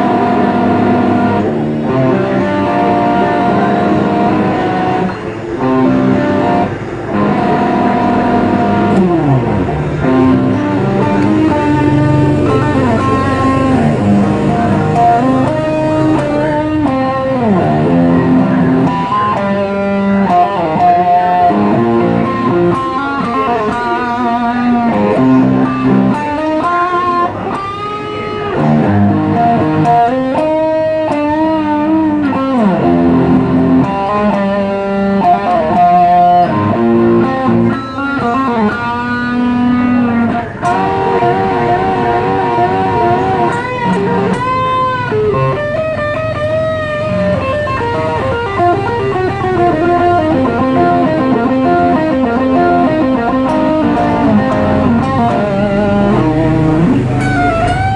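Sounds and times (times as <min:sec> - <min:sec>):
guitar melody with bent notes: 0:00.0 - 0:57.9.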